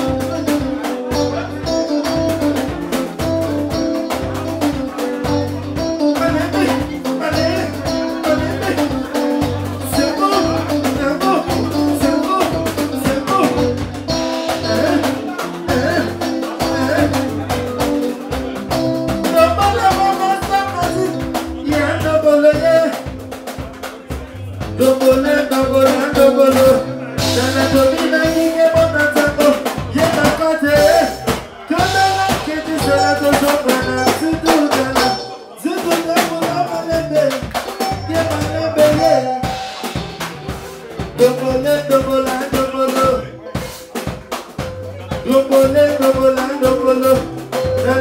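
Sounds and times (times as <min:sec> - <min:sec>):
live band with drums and bass: 0:00.0 - 0:48.0
person singing: 0:00.0 - 0:48.0.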